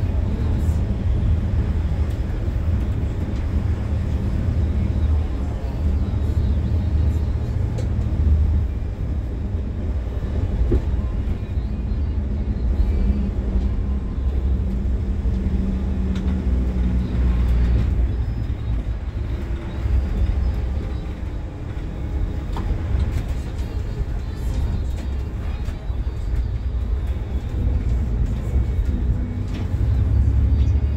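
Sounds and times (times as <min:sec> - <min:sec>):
bus diesel engine rumbling: 0:00.0 - 0:30.9.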